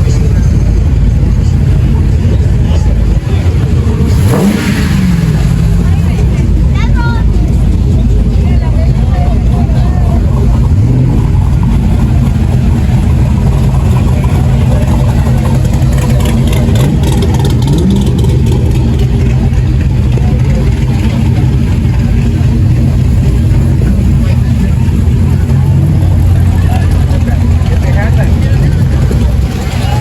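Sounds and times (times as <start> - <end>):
car engine revving: 0.0 - 30.0
car engine running: 0.0 - 30.0.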